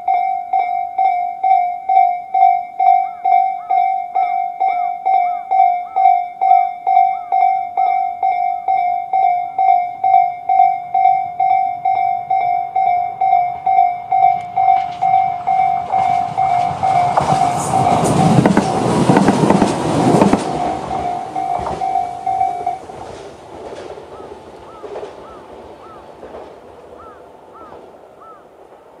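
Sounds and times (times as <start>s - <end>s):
level-crossing warning bell ringing: 0.0s - 26.0s
electric train passing: 0.0s - 29.0s.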